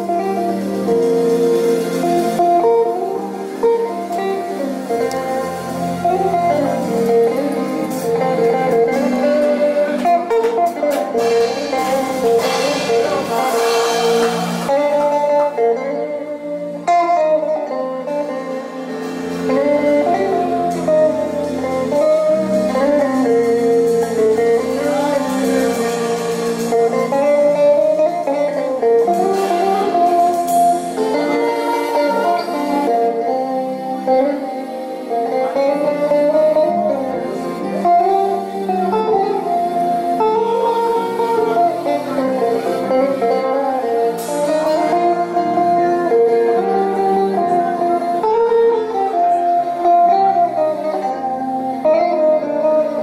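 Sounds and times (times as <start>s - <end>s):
band backing with bass: 0.0s - 53.0s
electric guitar lead: 0.0s - 53.0s.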